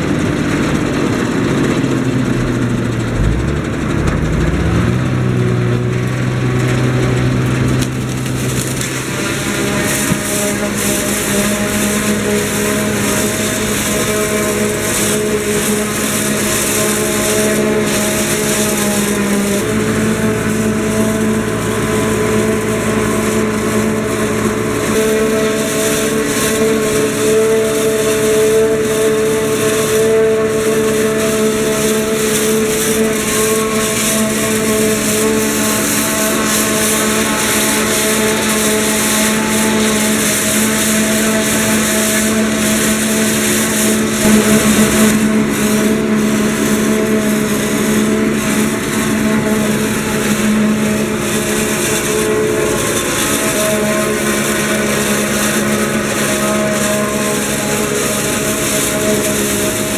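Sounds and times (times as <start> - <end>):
diesel engine and chopper drone: 0.0 - 59.9.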